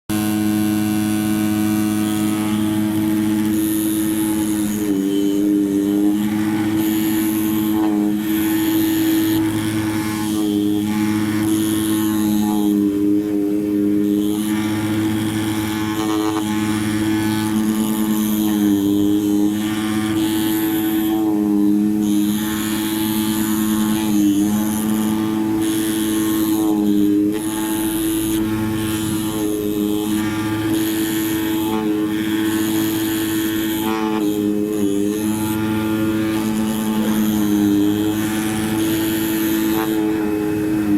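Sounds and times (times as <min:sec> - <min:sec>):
cutting machine motor hum: 0:00.0 - 0:40.9
drive motor whines: 0:00.0 - 0:40.9.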